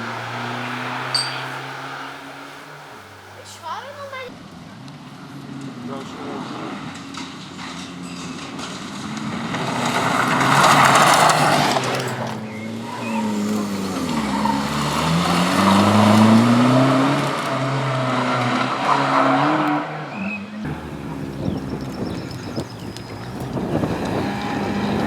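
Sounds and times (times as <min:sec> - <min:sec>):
rally car engine at full throttle: 0:00.0 - 0:25.0.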